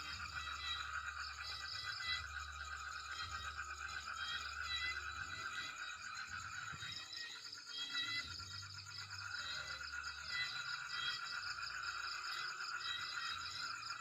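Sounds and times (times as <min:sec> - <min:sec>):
trilling chorus of calling animals: 0:00.0 - 0:14.0.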